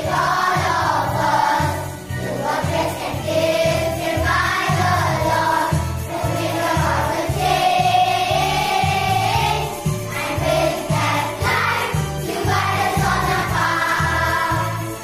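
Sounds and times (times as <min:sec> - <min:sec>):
children's choir singing: 0:00.0 - 0:15.0
instrumental backing track: 0:00.0 - 0:15.0.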